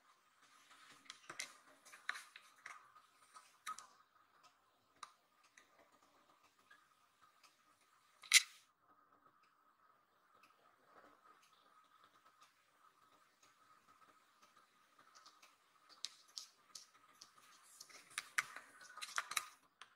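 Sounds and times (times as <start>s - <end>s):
faint clicks and ticks: 0.0s - 19.9s.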